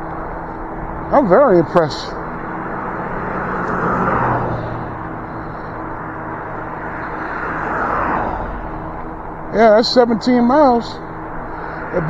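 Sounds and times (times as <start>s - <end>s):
road and wind noise: 0.0s - 12.0s
vehicles passing: 0.0s - 12.0s.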